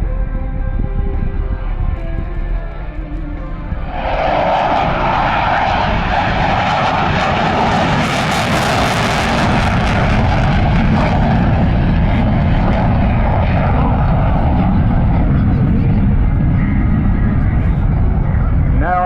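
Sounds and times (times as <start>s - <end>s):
jet flying overhead: 0.7s - 19.0s.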